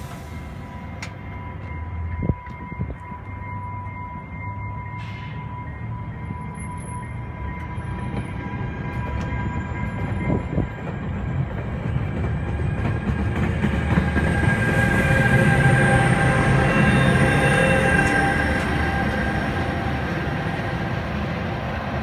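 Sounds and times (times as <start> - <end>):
locomotive whining: 0.0 - 22.0
train coaches rumbling on rails: 0.0 - 22.0.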